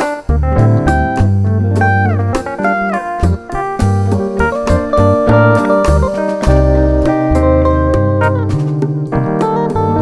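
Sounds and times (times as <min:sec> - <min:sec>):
instrumental music with keyboard and guitar: 0:00.0 - 0:10.0.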